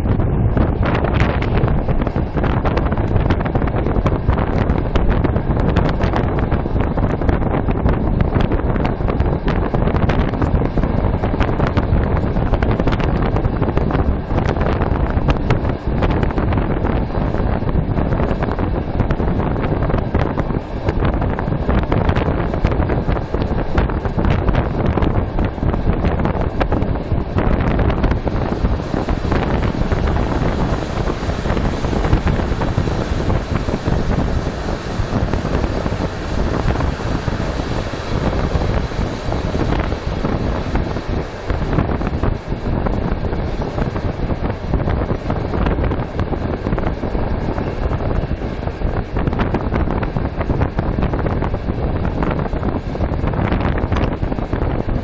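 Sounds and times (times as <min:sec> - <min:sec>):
train rumbling along track: 0:00.0 - 0:55.0
wind buffeting microphone: 0:00.0 - 0:55.0.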